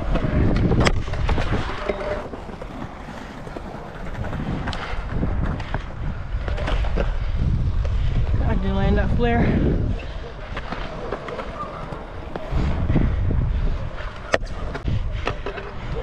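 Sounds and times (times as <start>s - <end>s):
scooter wheels rolling on concrete: 0.0s - 16.0s
wind rumbling on microphone: 0.0s - 16.0s.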